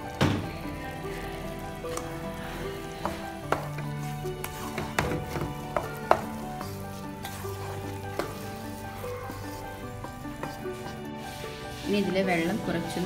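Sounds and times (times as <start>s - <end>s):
rice sizzling: 0.0s - 13.0s
spatula scraping pot: 1.1s - 13.0s.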